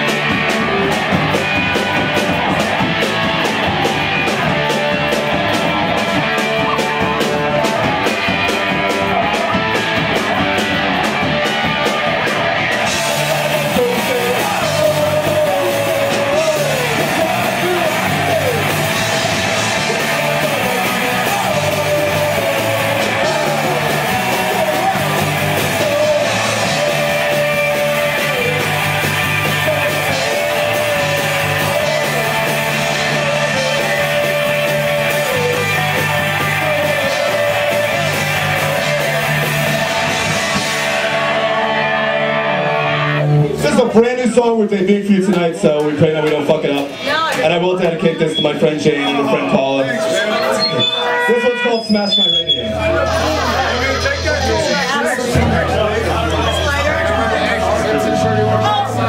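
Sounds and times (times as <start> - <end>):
half-shouted vocals: 0.0 - 45.2, 46.3 - 59.0
punk rock band playing live: 0.0 - 59.0.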